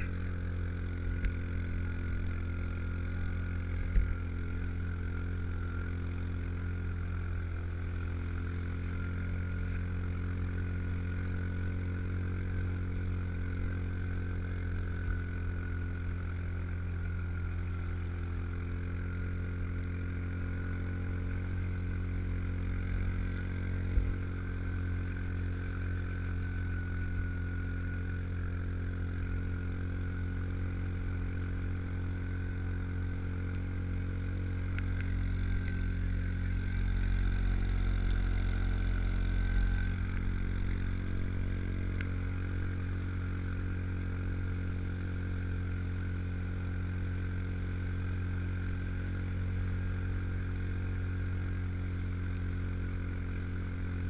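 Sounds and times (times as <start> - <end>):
engine droning with a whine: 0.0 - 54.0.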